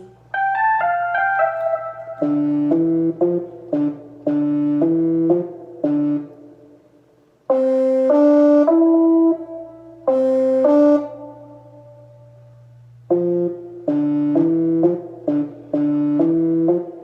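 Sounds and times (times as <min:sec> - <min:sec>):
electronic keyboard brass-like notes: 0:00.0 - 0:06.8, 0:07.4 - 0:17.0.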